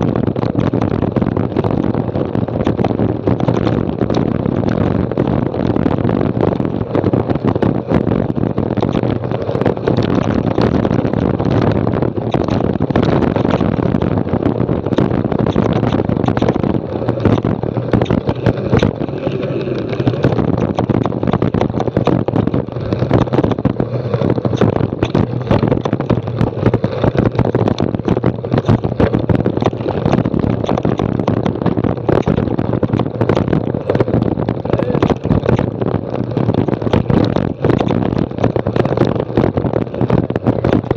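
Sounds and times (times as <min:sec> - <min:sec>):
bike rattling: 0:00.0 - 0:40.9
wind rushing over microphone: 0:00.0 - 0:40.9.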